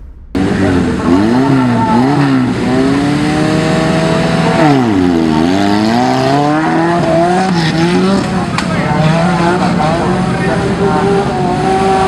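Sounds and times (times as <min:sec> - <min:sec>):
offroad vehicle engine revving: 0:00.3 - 0:12.0.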